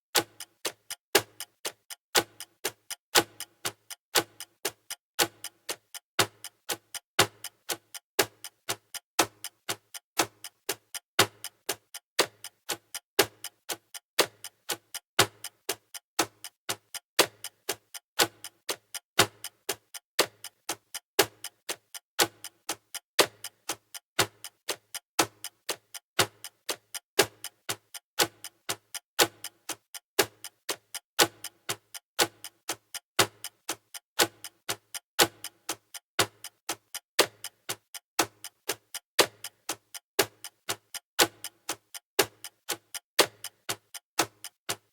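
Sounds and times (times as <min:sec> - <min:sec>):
clock ticking: 0:00.1 - 0:44.9.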